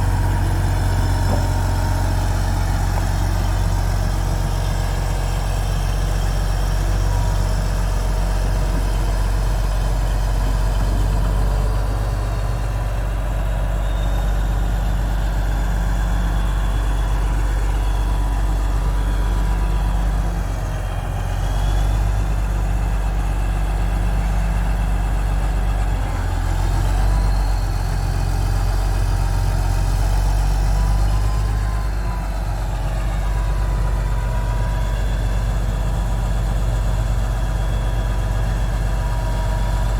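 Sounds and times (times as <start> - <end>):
large diesel engine idling: 0.0 - 39.9.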